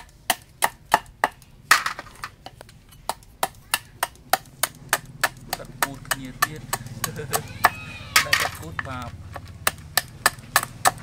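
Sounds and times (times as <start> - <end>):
cleaver chopping on wooden board: 0.0 - 1.4, 3.0 - 11.0.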